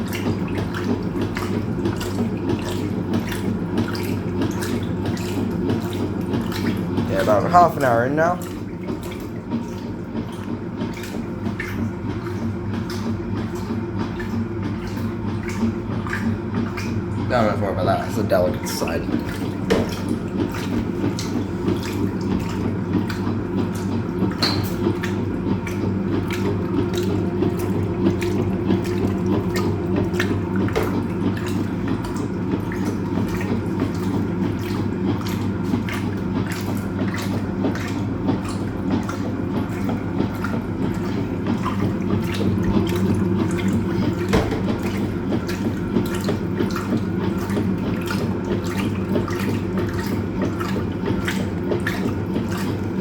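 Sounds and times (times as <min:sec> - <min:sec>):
water churning in washing machine: 0:00.0 - 0:53.0.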